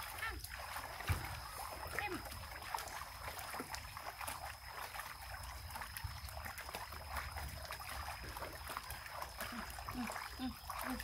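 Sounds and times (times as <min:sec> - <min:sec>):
water splashing in plastic tub: 0:00.0 - 0:11.0.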